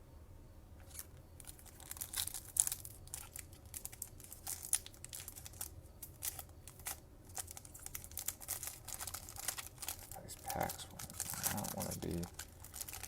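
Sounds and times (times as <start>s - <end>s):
foil wrapper tearing and crinkling: 0.8s - 13.0s.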